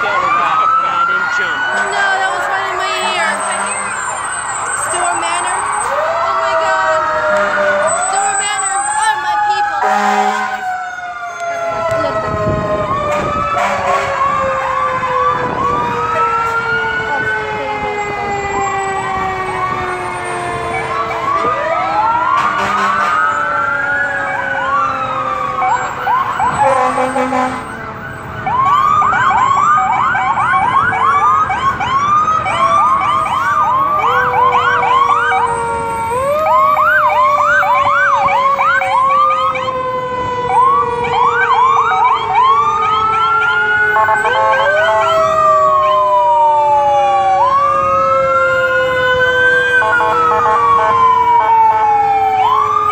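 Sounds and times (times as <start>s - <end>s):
fire engine sirens wailing: 0.0s - 52.9s
long falling siren tones: 0.0s - 52.9s
siren yelping sweeps: 0.0s - 52.9s.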